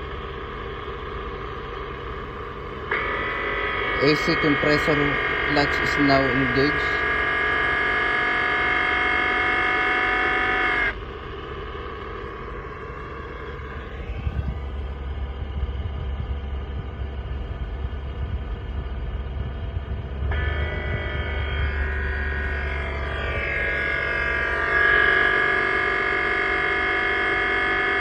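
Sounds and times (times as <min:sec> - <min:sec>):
rough low running noise with rumble: 0:00.0 - 0:08.9, 0:10.9 - 0:26.5
ac compressor whine: 0:00.0 - 0:28.0.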